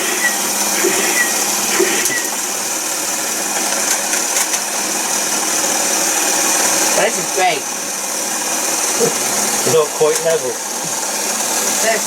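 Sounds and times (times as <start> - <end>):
pinball toy buzzing whir: 0.0 - 12.0.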